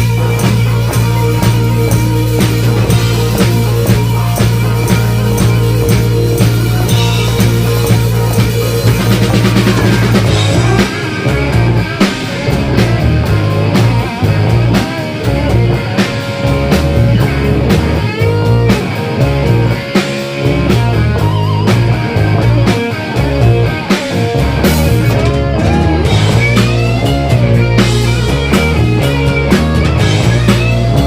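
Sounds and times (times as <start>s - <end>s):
bass guitar: 0.0s - 31.0s
drum kit beat: 0.0s - 31.0s
electric guitar lead: 0.0s - 31.0s.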